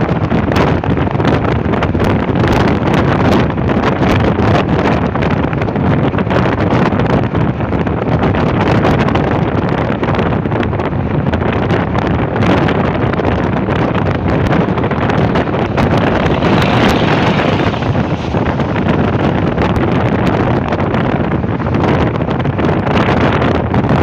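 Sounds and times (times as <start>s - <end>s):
wind and road noise: 0.0s - 24.0s
wind buffeting microphone: 0.0s - 24.0s.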